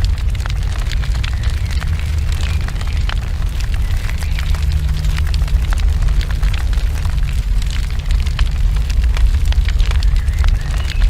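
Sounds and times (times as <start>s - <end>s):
deep steady rumble: 0.0s - 11.0s
sharp crackles and pops: 0.0s - 11.0s.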